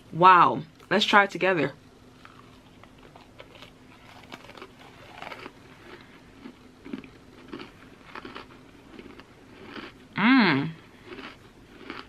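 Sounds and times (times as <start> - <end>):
person chewing cookie: 2.1 - 12.0.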